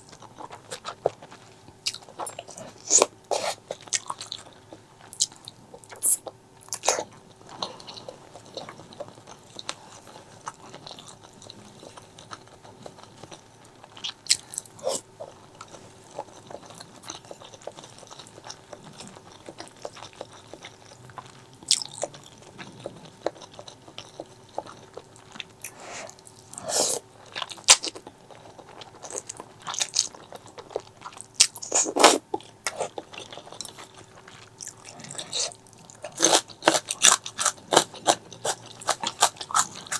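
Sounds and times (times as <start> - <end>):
crunchy chewing: 0.0 - 39.9
faint steady hum: 0.0 - 39.9.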